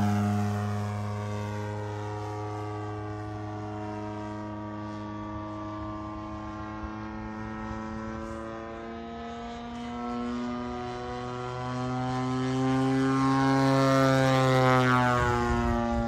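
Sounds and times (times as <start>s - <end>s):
model plane engine droning: 0.0s - 16.0s.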